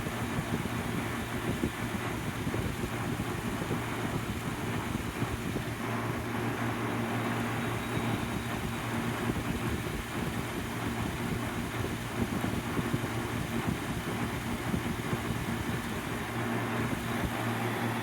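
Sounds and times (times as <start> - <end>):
compressor humming: 0.0 - 18.0
fan airflow rushing: 0.0 - 18.0.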